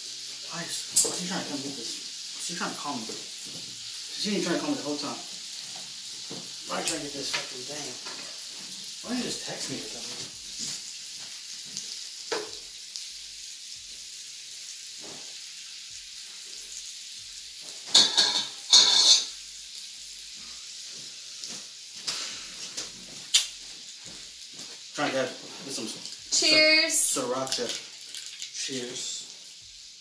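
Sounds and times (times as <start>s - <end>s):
pork sizzling on a grill: 0.0s - 30.0s.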